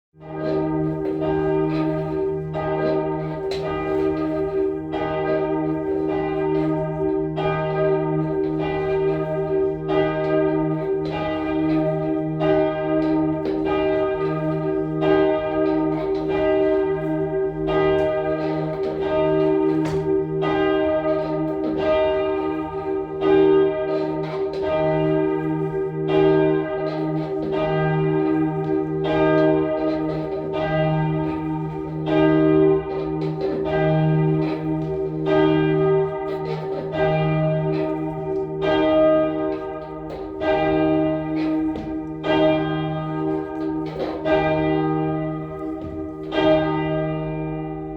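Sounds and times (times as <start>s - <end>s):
deep church bell ringing: 0.2s - 47.9s.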